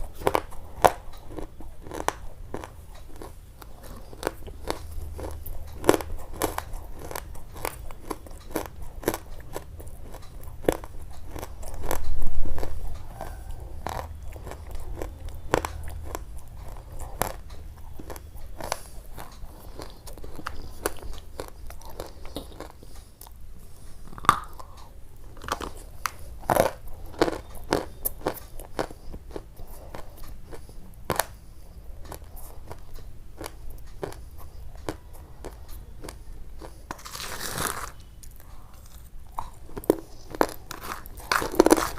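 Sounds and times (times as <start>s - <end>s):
crunchy chewing: 0.0s - 41.9s.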